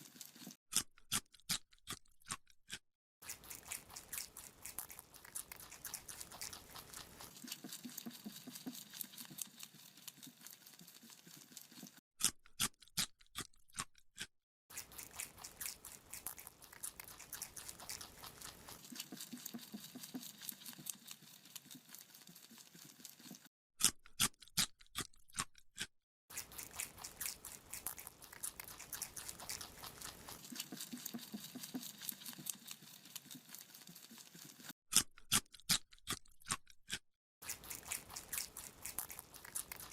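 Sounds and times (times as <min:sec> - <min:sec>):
rabbit chewing a carrot: 0:00.0 - 0:39.9.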